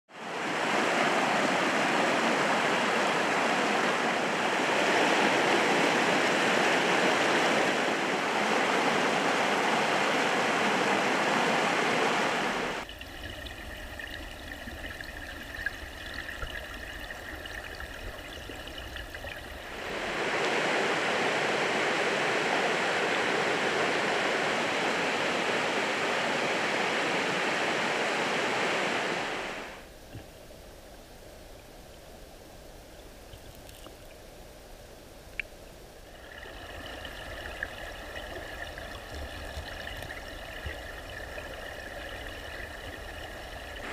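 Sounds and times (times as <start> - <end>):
creek water rushing: 0.1 - 29.9, 35.9 - 43.9.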